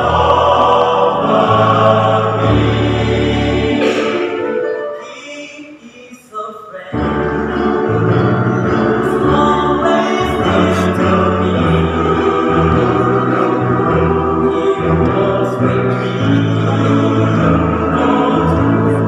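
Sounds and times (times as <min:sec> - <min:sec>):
men's choir singing: 0:00.0 - 0:05.1, 0:06.9 - 0:19.0.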